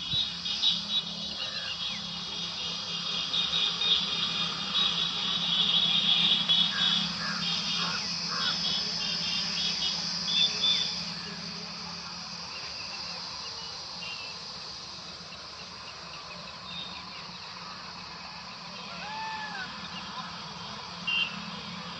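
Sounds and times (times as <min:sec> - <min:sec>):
high insect buzz: 0:00.0 - 0:18.8
birds chirping: 0:00.0 - 0:19.0.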